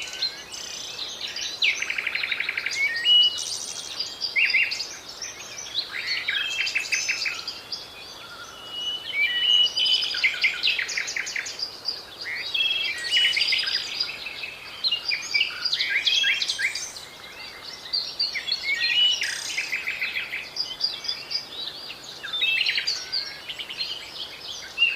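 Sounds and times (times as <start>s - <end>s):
songbirds singing and chirping: 0.0s - 24.9s.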